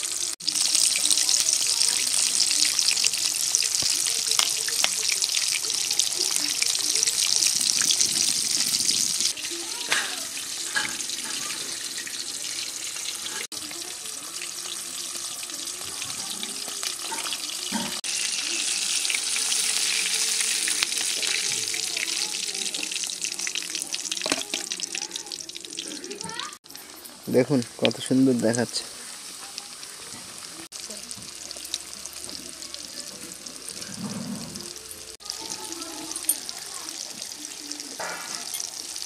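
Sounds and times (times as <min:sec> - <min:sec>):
oil sizzling while deep-frying: 0:00.0 - 0:39.0.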